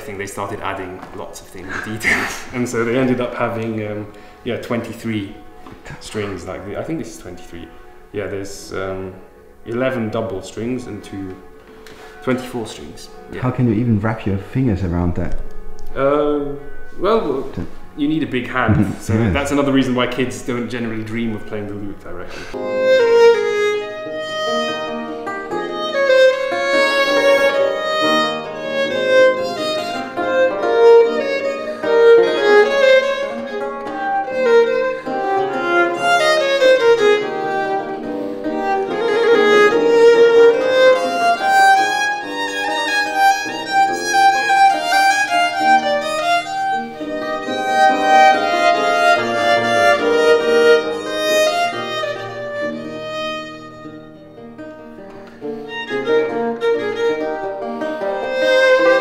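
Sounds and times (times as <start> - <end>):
plucked lute accompaniment: 0.0 - 14.5, 15.1 - 59.0
bowed violin melody: 0.0 - 59.0.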